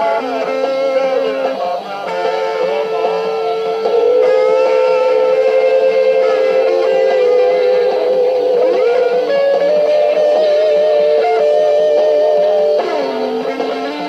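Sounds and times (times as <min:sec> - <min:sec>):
electric guitar lead with vibrato: 0:00.0 - 0:14.0.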